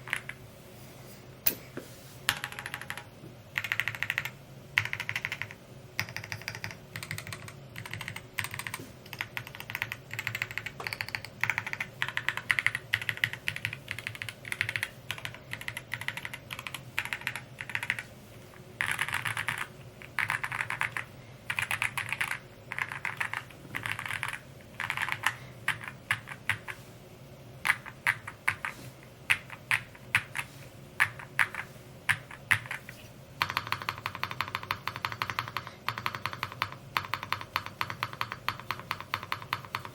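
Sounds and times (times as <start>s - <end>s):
mechanical keyboard typing: 0.0s - 0.4s, 2.3s - 18.1s, 18.8s - 26.8s, 27.6s - 39.9s.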